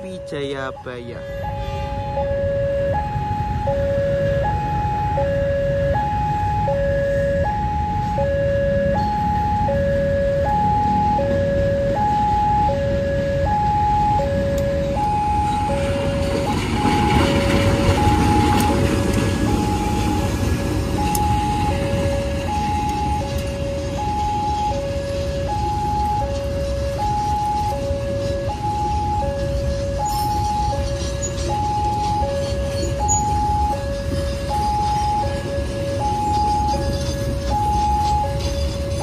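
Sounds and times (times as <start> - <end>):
train rumble: 0.0 - 39.0
two-tone level crossing alarm: 0.0 - 39.0.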